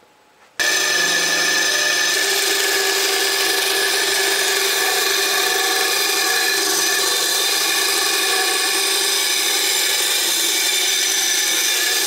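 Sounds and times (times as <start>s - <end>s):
bandsaw cutting plywood: 0.6s - 12.0s.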